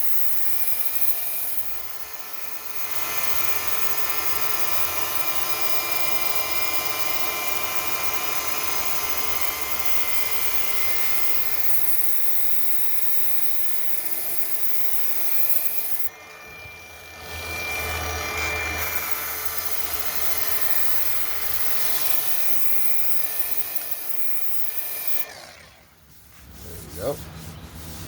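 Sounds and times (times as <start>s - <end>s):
rotary polisher motor whining: 0.0s - 26.0s
sanding disc grinding filler: 0.0s - 28.0s.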